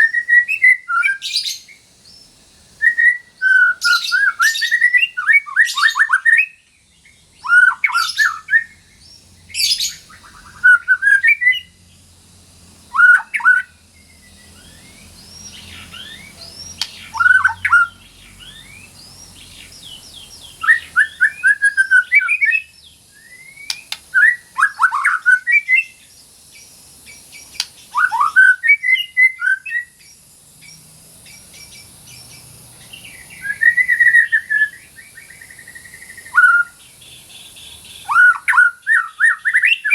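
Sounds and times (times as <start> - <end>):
bird singing whistled phrases: 0.0 - 11.8, 12.9 - 26.1, 27.1 - 30.1, 32.9 - 39.9.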